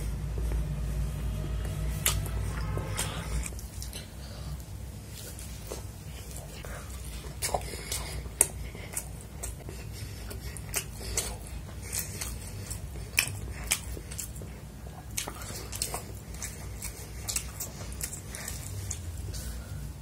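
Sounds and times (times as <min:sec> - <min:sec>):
faint low hum: 0:00.0 - 0:20.0
chewing and mouth smacks: 0:01.9 - 0:04.2, 0:05.2 - 0:19.6.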